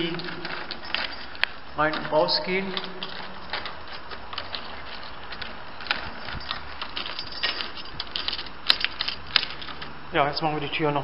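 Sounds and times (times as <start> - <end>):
door lock clicking and rattling: 0.0 - 10.0
lock bolts sliding: 0.0 - 10.0.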